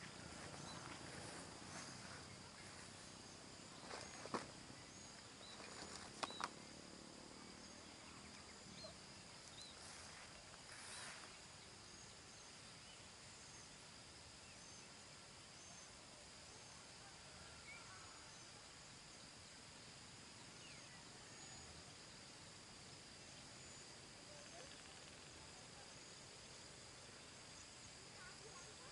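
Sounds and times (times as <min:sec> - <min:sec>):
high insect drone: 0:00.0 - 0:28.9.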